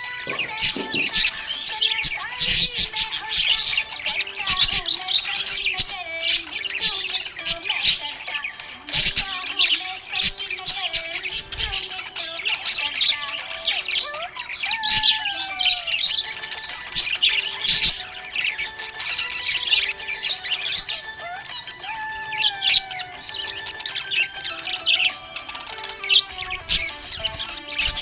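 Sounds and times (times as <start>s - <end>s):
parrots chattering: 0.0s - 28.0s.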